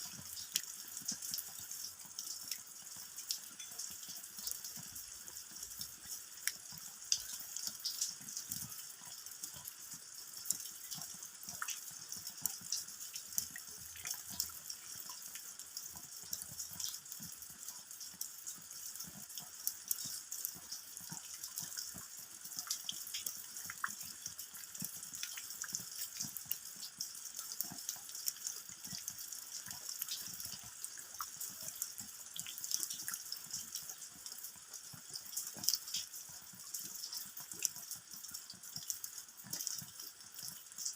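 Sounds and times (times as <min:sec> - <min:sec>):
rain falling on ground: 0:00.0 - 0:40.9.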